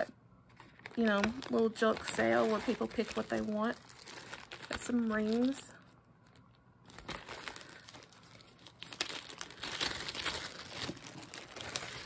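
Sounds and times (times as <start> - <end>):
plastic bag crinkling: 0.5 - 12.0.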